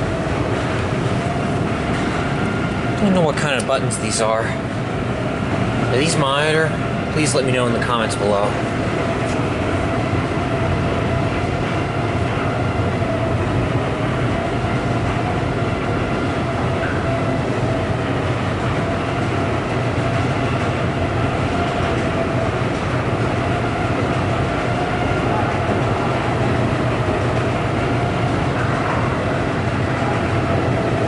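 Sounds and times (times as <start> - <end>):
mechanical drone: 0.0 - 31.0.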